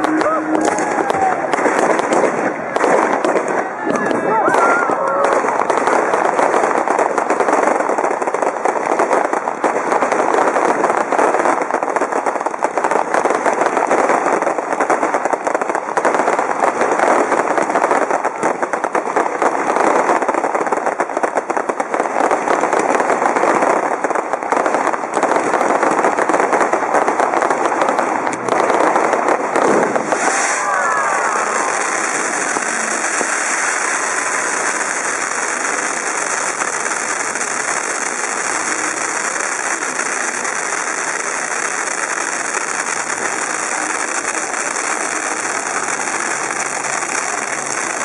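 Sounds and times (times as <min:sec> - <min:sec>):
fireworks crackling and popping: 0:00.0 - 0:48.0.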